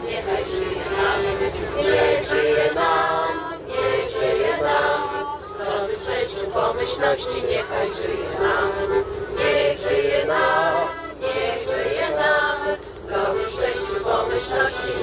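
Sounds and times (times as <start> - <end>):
women singing in chorus: 0.0 - 15.0.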